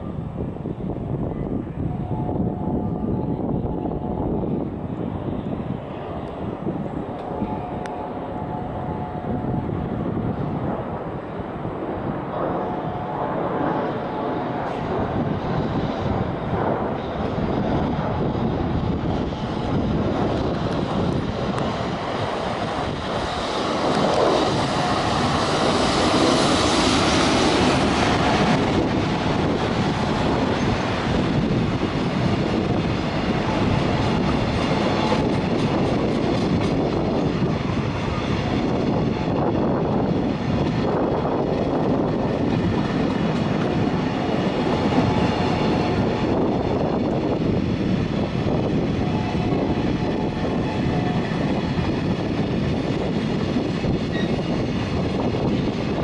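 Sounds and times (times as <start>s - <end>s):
electric locomotive passing: 0.0s - 56.0s.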